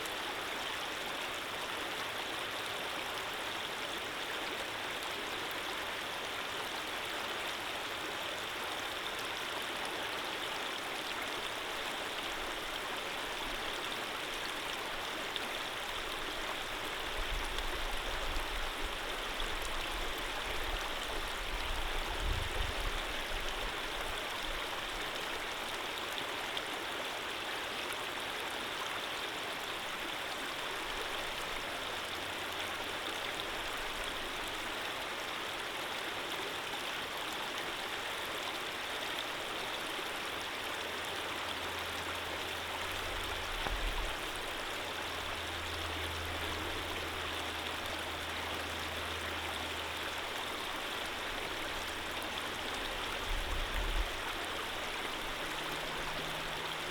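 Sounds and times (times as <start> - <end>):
stream flowing: 0.0 - 56.9.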